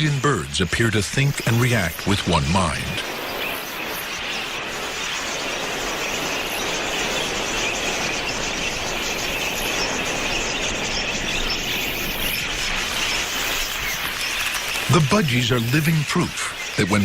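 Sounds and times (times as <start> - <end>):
flock of budgerigars chirping: 0.0 - 17.0.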